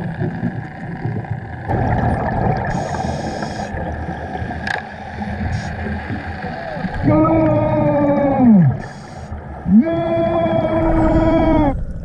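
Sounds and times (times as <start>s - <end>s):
underwater water and bubbles: 0.0s - 12.0s.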